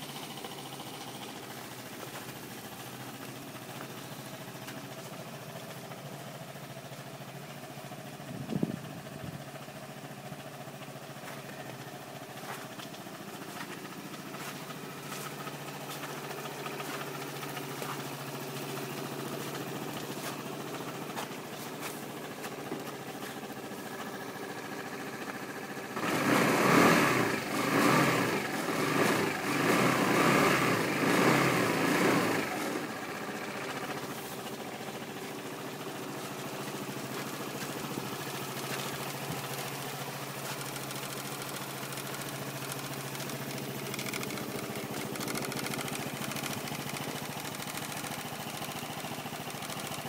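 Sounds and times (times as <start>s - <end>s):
scooter engine idling: 0.0s - 50.0s.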